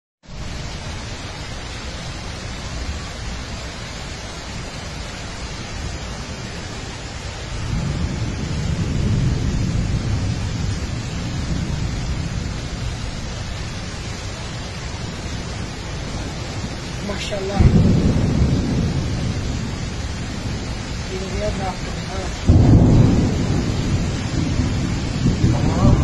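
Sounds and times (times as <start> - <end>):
heavy rain hissing: 0.2 - 26.0
thunder rumbling: 0.2 - 26.0.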